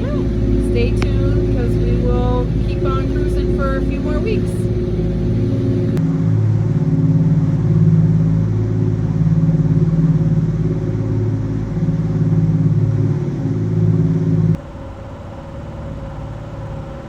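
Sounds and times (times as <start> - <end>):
boat diesel engines droning: 0.0 - 17.0.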